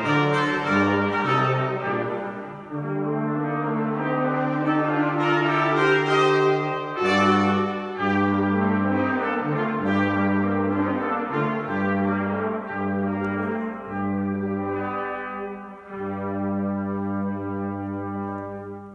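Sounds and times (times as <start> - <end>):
brass quartet playing: 0.0 - 18.9.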